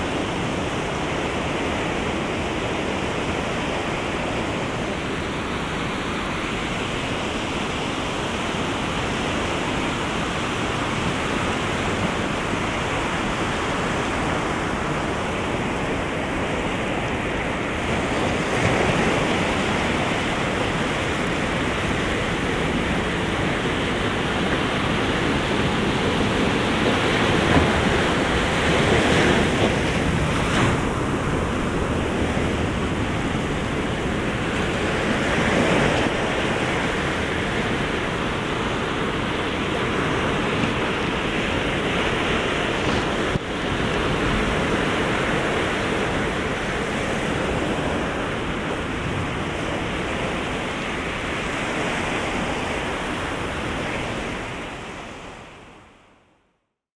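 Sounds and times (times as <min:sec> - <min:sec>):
waves breaking: 0:00.0 - 0:56.0
ocean surf washing on shore: 0:00.0 - 0:56.2.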